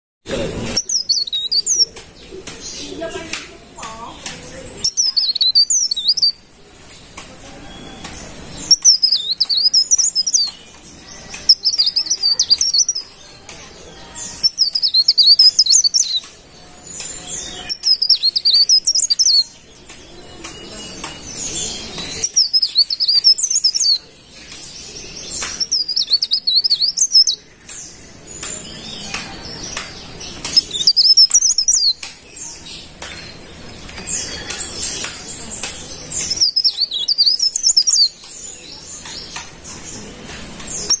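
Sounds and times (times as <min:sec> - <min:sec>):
warbler twittering song: 0:00.3 - 0:41.0.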